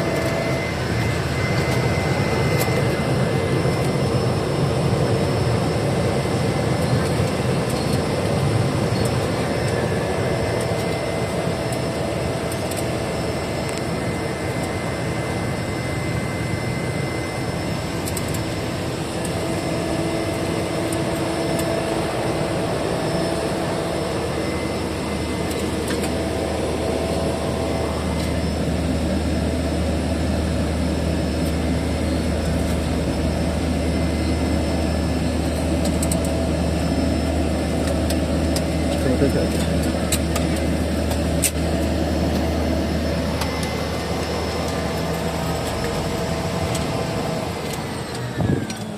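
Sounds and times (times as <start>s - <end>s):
propeller plane engine droning: 0.0s - 48.9s.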